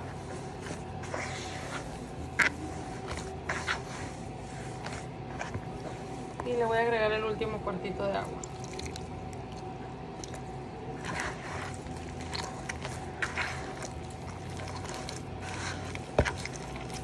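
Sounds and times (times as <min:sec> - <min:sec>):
hands squishing wet dough: 0:00.0 - 0:06.8, 0:07.9 - 0:17.0.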